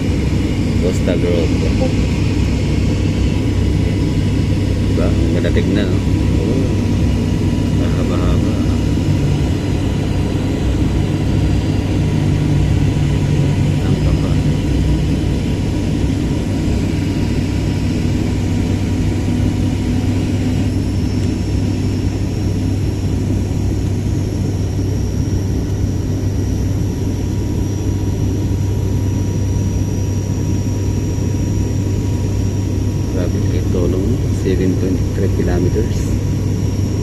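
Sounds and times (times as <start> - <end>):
airplane cabin engine drone: 0.0 - 37.0.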